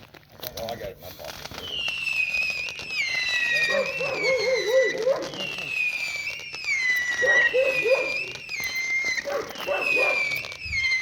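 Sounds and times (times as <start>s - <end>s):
whistling firework: 1.2s - 11.0s.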